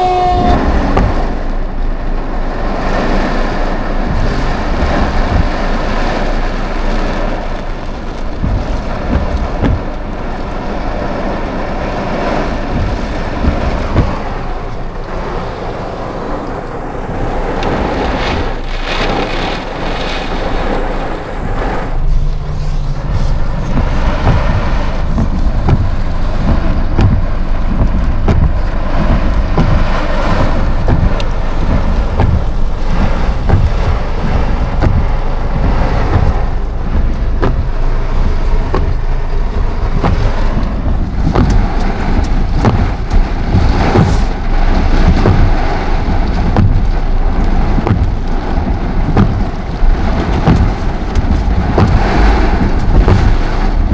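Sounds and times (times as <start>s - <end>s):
heavy rain hiss: 0.0s - 53.9s
thunder rumble: 0.0s - 53.9s
wind: 0.0s - 53.9s.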